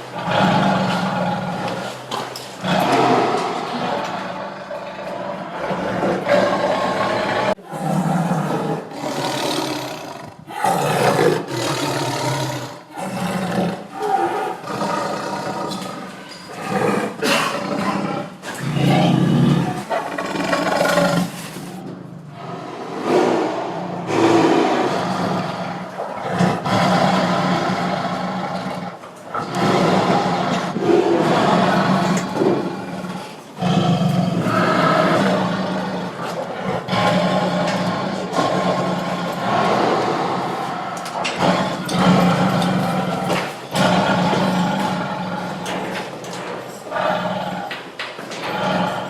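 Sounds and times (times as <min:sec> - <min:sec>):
tiger roaring: 0:00.0 - 0:49.0.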